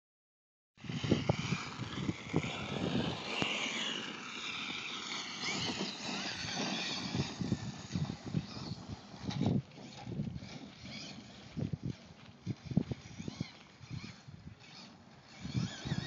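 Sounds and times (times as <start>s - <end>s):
rc truck electric motor whine: 0.8s - 16.0s.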